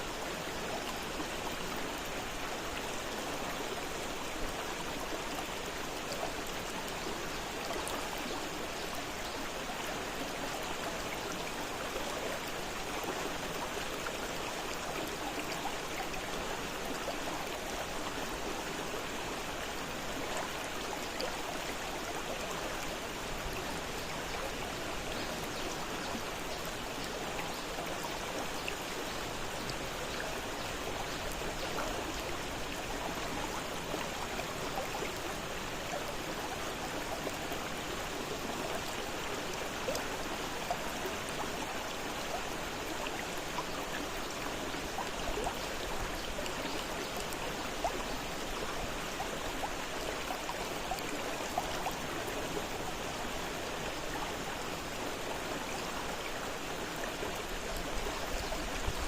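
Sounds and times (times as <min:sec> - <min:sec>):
river water rushing and splashing: 0:00.0 - 0:59.0.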